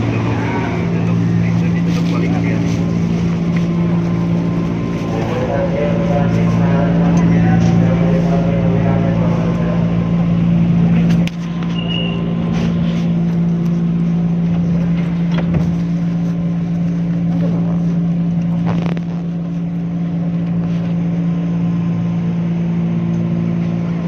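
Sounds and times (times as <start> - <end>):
train engine humming: 0.0 - 24.0.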